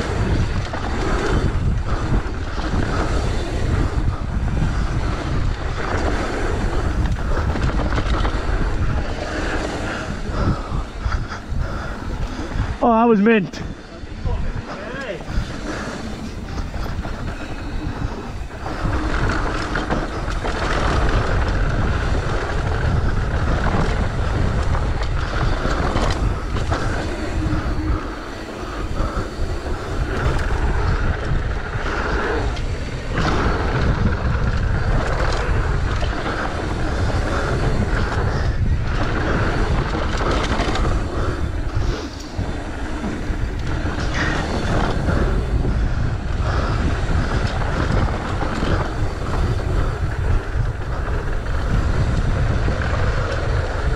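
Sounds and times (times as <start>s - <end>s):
bike rattling over bumps: 0.0s - 53.9s
bike tyres rolling over gravel: 0.0s - 53.9s
wind rushing over microphone: 0.0s - 53.9s.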